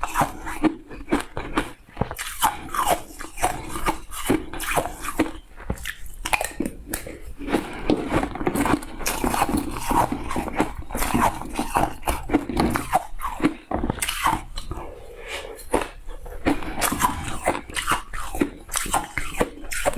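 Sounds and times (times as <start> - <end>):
chewing crunchy ice: 0.0 - 19.9.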